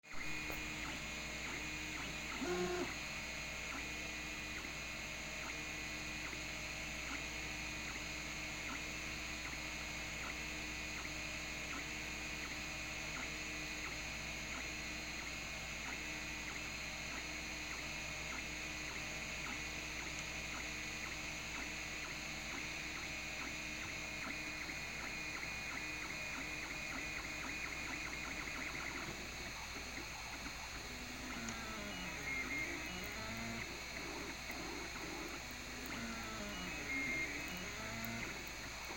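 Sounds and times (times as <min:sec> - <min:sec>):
fan hum: 0:00.0 - 0:38.9
stepper motors whining: 0:00.0 - 0:38.9.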